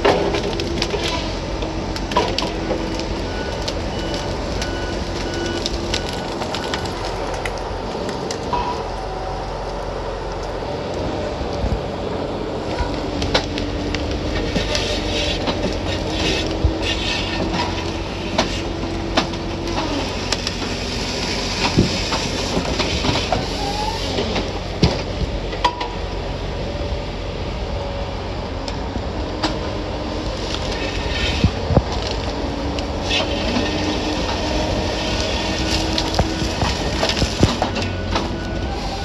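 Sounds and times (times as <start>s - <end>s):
engine hum: 0.0s - 39.0s
vehicle rumbling on rough road: 0.0s - 39.0s.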